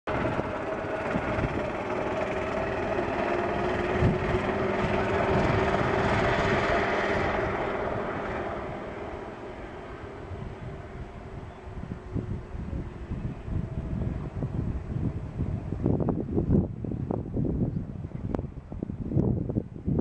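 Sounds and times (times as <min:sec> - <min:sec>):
golf cart motor drone: 0:00.1 - 0:19.4.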